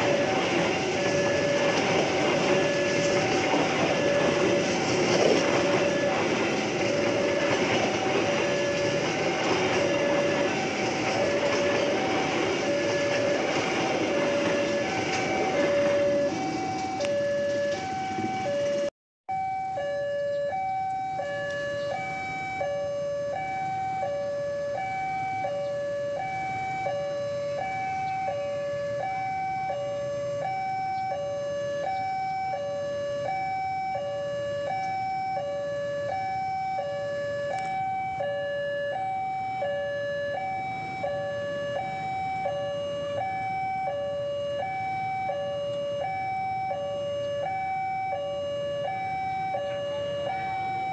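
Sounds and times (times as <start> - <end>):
passing train rumbling: 0.0 - 50.9
two-tone crossing alarm: 0.0 - 50.9.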